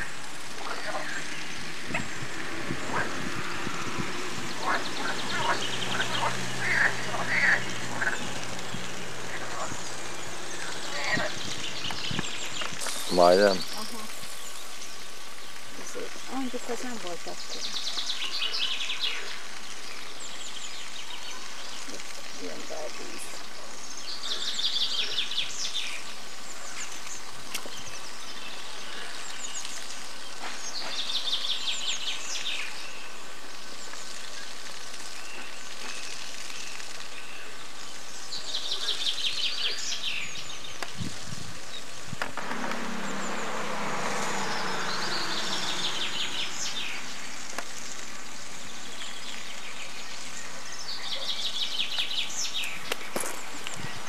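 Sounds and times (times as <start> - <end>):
steady outdoor hiss: 0.0 - 54.0.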